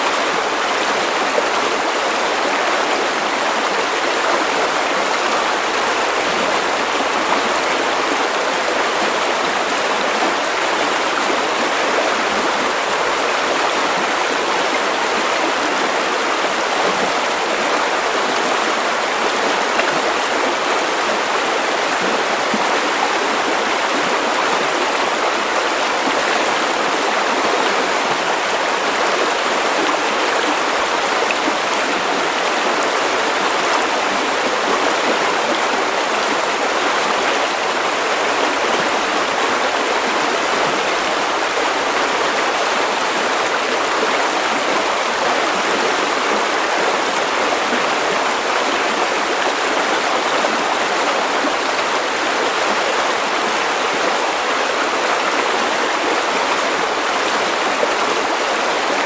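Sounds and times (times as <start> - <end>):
river water over stones: 0.0 - 59.0.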